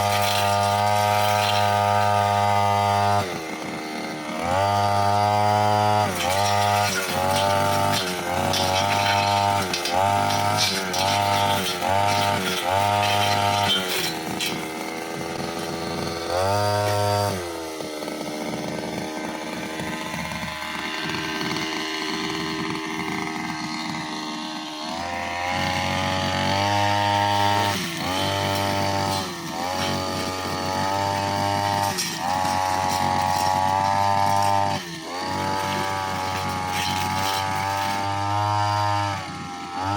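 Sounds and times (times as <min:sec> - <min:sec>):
brushcutter engine revving: 0:00.0 - 0:39.9.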